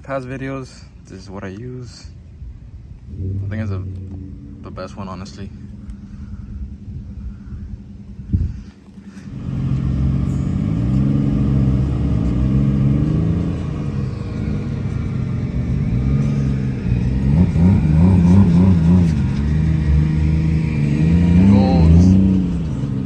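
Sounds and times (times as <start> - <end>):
car engine revving: 2.7 - 23.0.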